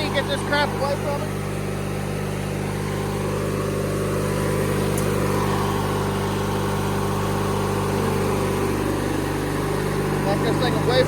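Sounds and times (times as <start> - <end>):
riding lawn mower engine running: 0.0 - 11.0.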